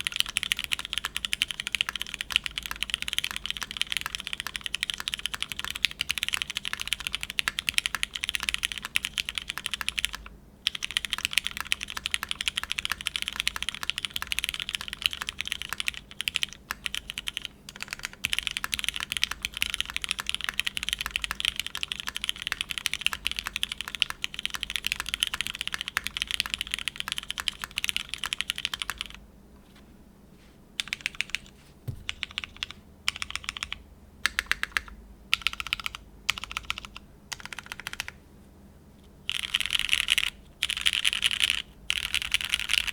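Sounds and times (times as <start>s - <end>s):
typing on mechanical keyboard: 0.0s - 29.2s, 30.8s - 38.2s, 39.3s - 42.9s.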